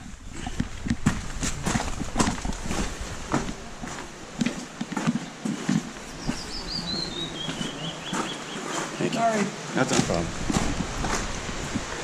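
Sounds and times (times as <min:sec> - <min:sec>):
footsteps crunching on rocky trail: 0:00.0 - 0:12.0.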